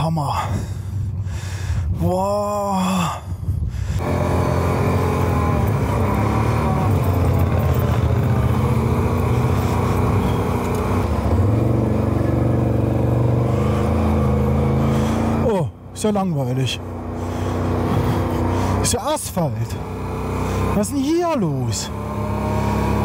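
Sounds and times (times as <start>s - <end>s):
quad engine running under load: 0.0s - 23.0s.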